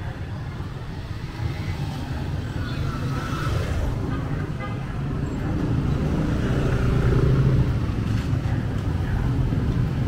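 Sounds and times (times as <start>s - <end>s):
city street din: 0.0s - 10.0s.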